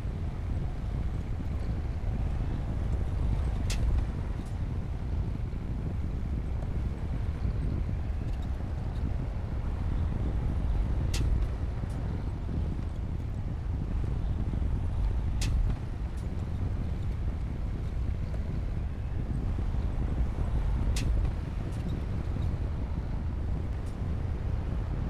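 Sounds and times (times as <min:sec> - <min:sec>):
bulldozer diesel engine rumble: 0:00.0 - 0:25.0.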